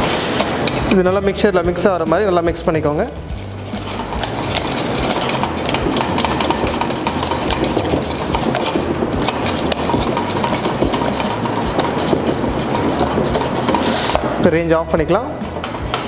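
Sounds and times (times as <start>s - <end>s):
utensil beating mash in saucepan: 0.0s - 14.6s.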